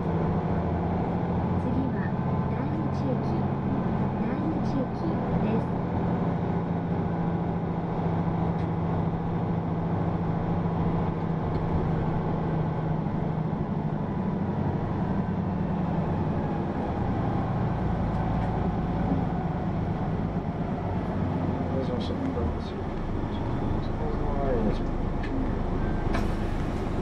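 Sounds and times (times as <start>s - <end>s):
bus diesel engine humming: 0.0s - 27.0s.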